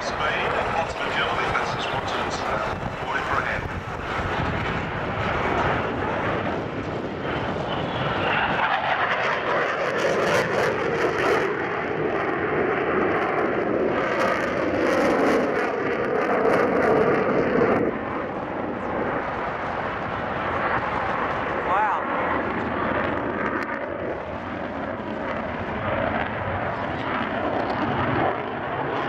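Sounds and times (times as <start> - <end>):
jet engine rushing overhead: 0.0 - 29.0.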